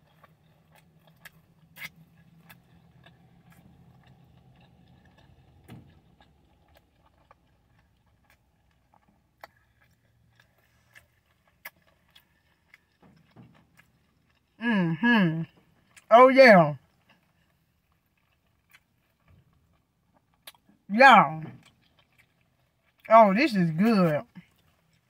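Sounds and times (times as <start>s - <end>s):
close-up chewing: 0.0s - 14.6s, 15.4s - 16.1s, 16.8s - 23.2s, 24.2s - 25.0s.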